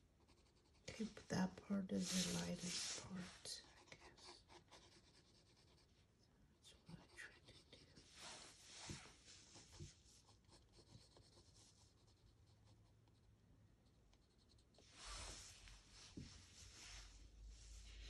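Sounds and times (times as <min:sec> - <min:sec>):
pencil scratching on paper: 0:00.2 - 0:06.1, 0:06.8 - 0:15.6.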